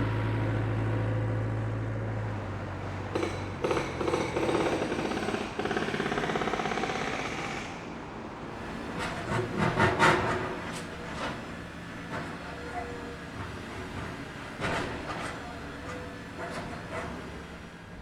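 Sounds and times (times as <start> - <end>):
diesel engine rattling under load: 1.5 - 7.2, 8.5 - 18.0.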